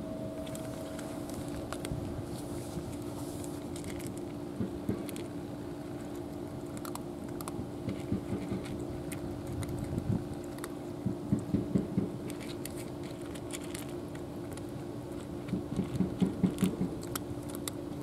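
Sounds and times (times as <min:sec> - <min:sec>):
steady low hum: 0:00.0 - 0:18.0
cats crunching dry kibble: 0:00.3 - 0:18.0.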